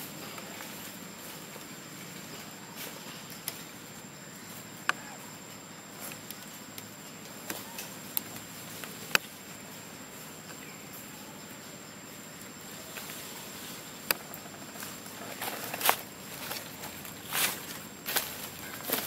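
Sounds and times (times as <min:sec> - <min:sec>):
high insect buzz: 0:00.0 - 0:19.0
steady hiss: 0:00.0 - 0:19.0.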